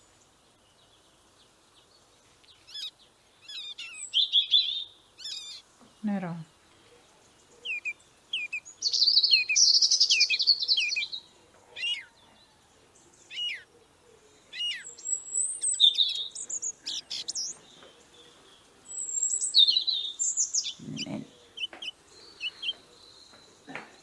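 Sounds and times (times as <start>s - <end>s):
downward-sweeping bird calls: 2.6s - 24.0s.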